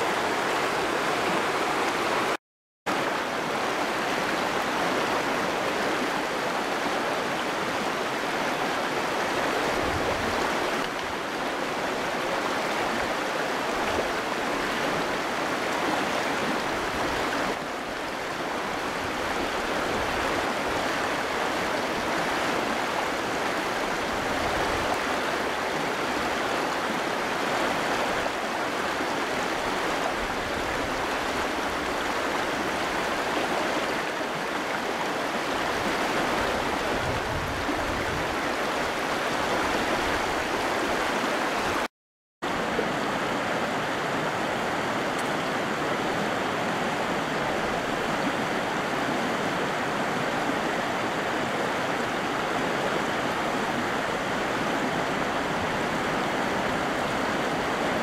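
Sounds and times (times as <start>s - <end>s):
river rushing over stones: 0.0s - 41.9s, 42.5s - 58.0s.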